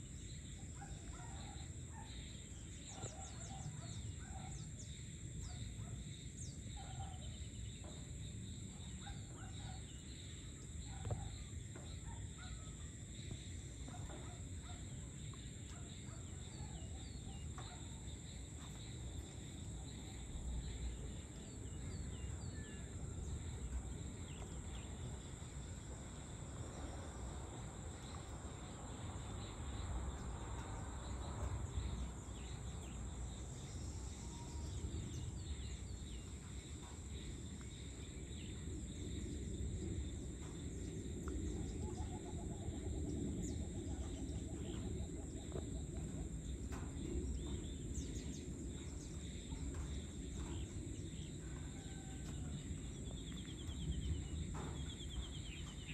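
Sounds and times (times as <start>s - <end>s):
crickets chirping: 0.0s - 55.9s
high insect drone: 0.0s - 55.9s.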